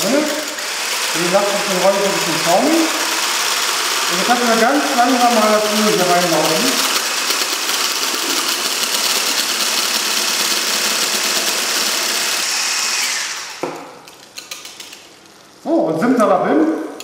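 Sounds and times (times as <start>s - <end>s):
electric blender running: 0.0s - 13.9s.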